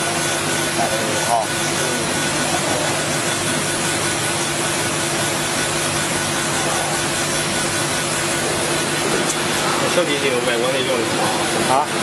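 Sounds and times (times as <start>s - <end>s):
laser engraver whirring: 0.0s - 12.0s.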